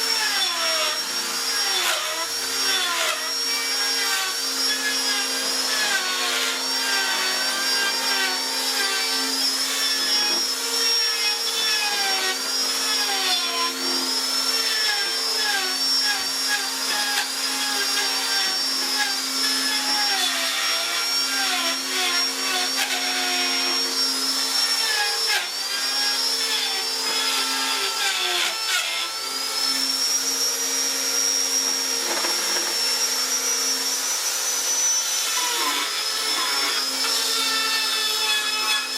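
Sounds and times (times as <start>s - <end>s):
electric power tool whining: 0.0s - 38.9s.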